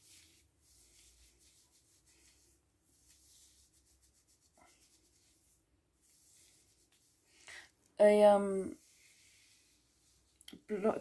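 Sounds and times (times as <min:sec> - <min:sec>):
gloved hands rustling hair: 0:00.0 - 0:11.0.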